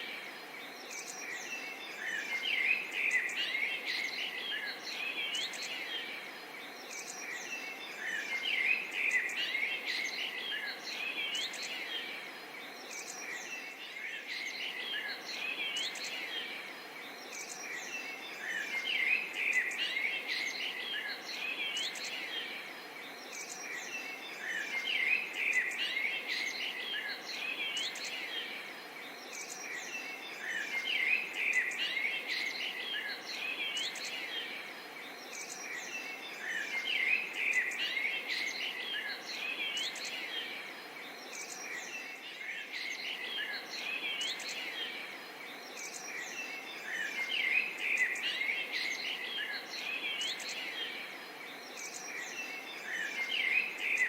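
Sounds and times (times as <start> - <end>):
birds chirping and calling: 0.0 - 54.0
steady background hiss: 0.0 - 54.0.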